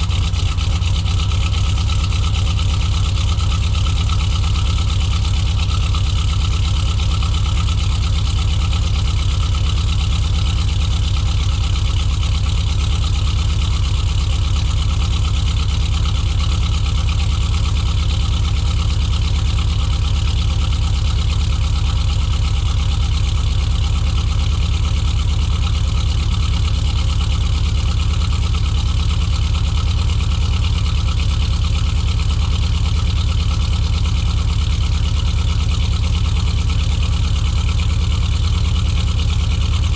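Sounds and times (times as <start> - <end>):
engine idling roughly: 0.0 - 39.9.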